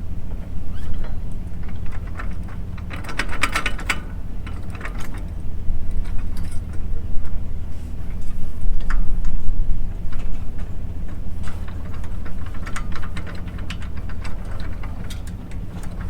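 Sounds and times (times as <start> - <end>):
engine idling: 0.0 - 8.7, 9.5 - 16.0.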